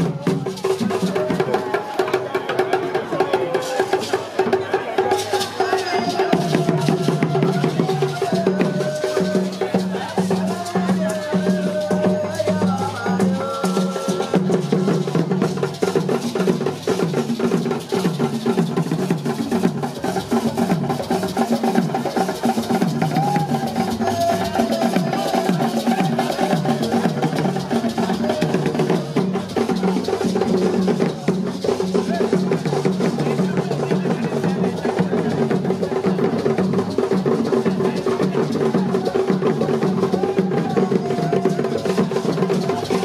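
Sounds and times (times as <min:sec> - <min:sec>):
fast drum percussion: 0:00.0 - 0:43.0.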